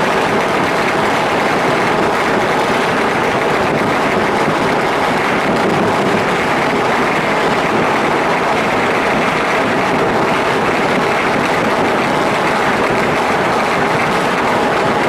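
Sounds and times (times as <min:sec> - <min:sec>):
crackle of distant fireworks: 0:00.0 - 0:15.0.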